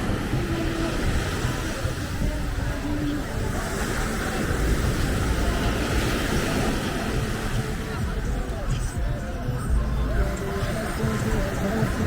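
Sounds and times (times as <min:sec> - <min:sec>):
faint distant voices: 0:00.0 - 0:12.0
surf: 0:00.0 - 0:12.0.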